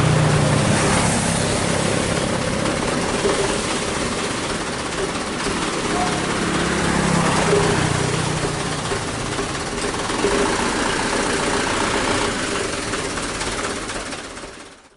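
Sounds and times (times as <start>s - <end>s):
truck diesel engine running: 0.0s - 14.9s.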